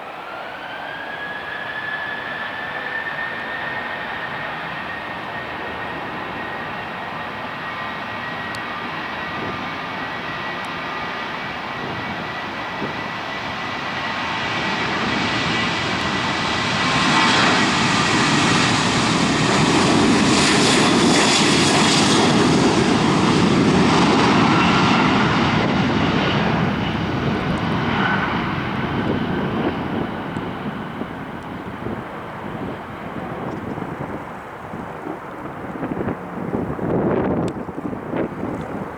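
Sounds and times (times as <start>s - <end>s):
jet engine whine and rush: 0.0s - 38.9s.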